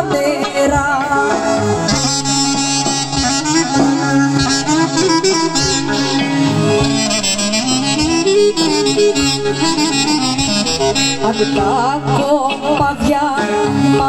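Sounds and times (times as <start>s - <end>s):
folk band playing: 0.0s - 14.0s
clarinet melody: 1.8s - 14.0s.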